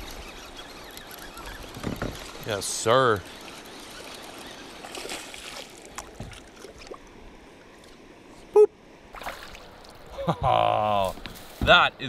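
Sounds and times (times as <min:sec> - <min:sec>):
river water lapping: 0:00.0 - 0:10.4.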